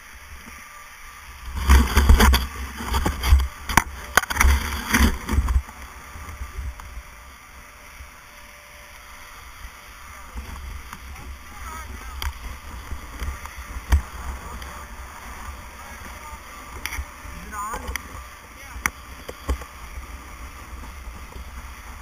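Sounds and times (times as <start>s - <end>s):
skis scraping over snow: 0.0s - 22.0s
steady rushing noise: 0.0s - 22.0s.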